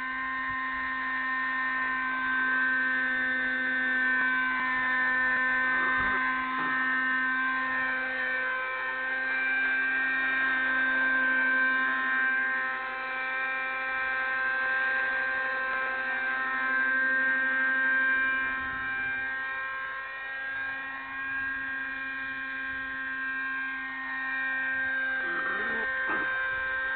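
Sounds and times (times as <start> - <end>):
model helicopter engine whine: 0.0 - 26.9.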